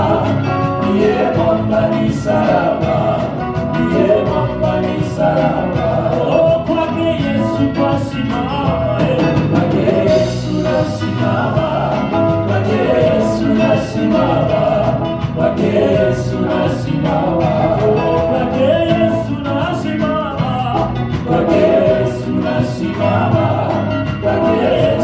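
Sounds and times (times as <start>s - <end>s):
band playing: 0.0s - 25.0s
people singing: 0.0s - 25.0s.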